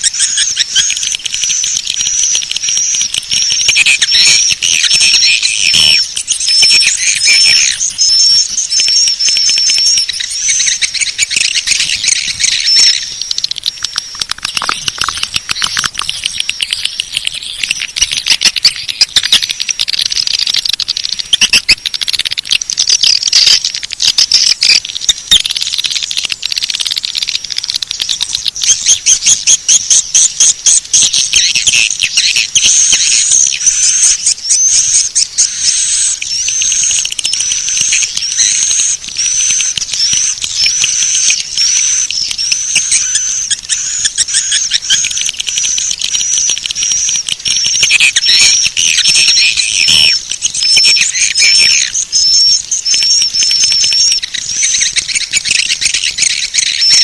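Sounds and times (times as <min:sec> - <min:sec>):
repeated high chirps: 0:00.0 - 0:25.5, 0:28.0 - 0:57.0
swiftlets twittering and chirping: 0:00.0 - 0:57.0.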